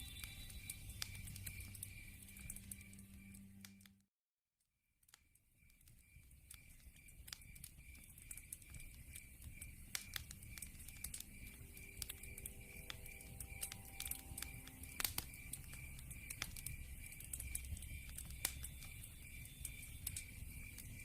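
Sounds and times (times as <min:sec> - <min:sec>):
crickets chirping: 0:00.0 - 0:03.6, 0:05.6 - 0:21.0
wood fire crackling: 0:00.0 - 0:03.9, 0:05.1 - 0:21.0.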